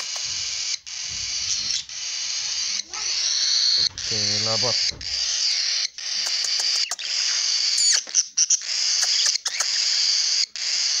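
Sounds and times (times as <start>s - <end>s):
budgerigar warbling: 0.0s - 10.0s
bird chirps and clicks: 0.0s - 10.5s.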